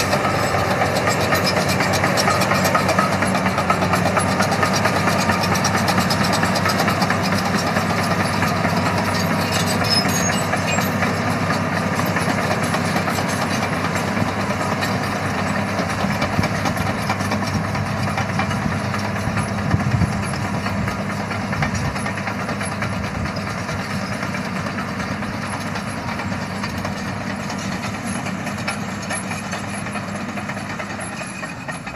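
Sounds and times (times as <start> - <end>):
bulldozer diesel engine running: 0.0 - 31.9
steel tracks clattering: 0.0 - 31.9.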